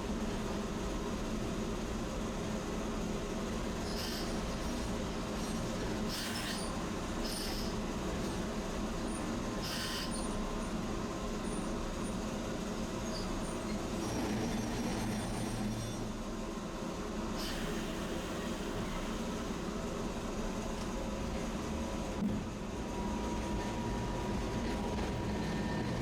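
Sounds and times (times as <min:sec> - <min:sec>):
streetcar motor and rail hum: 0:00.0 - 0:26.0.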